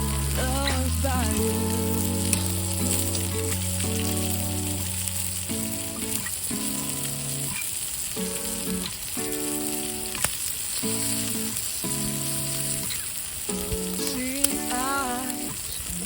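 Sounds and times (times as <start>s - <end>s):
steak sizzling on griddle: 0.0s - 16.0s.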